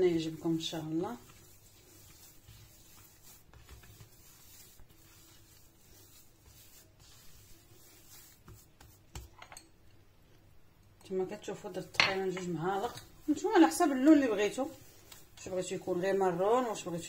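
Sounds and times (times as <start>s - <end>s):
hands kneading dough: 0.0s - 9.4s, 12.2s - 17.0s.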